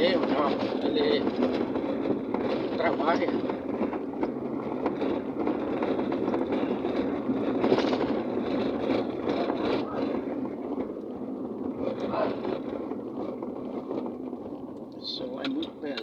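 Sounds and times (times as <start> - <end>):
road and tyre noise: 0.0 - 16.0.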